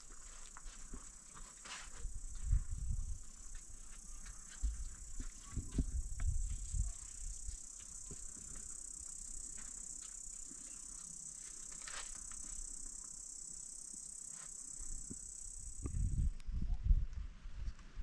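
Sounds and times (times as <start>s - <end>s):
crickets chirping chorus: 0.0s - 16.4s.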